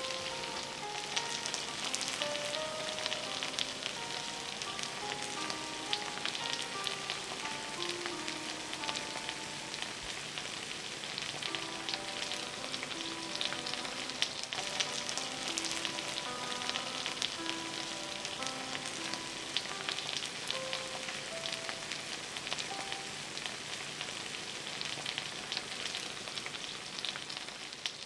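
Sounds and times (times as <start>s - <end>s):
faint soft music: 0.0s - 28.0s
food sizzling in skillet: 0.0s - 28.0s.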